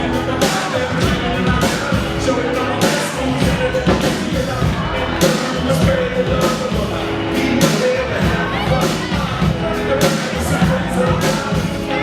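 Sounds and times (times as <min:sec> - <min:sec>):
loud pop music: 0:00.0 - 0:12.0.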